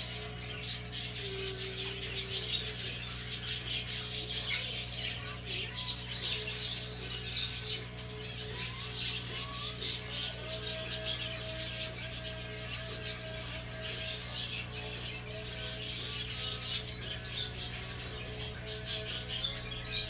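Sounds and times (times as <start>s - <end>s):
low electrical hum: 0.0s - 20.0s
small birds chirping: 0.0s - 20.0s.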